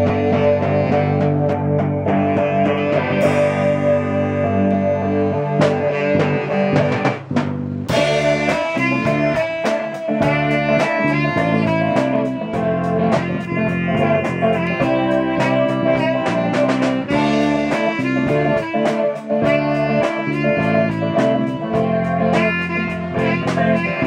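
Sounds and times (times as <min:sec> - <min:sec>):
electric guitars: 0:00.0 - 0:24.0
saxophone long notes: 0:00.0 - 0:24.0.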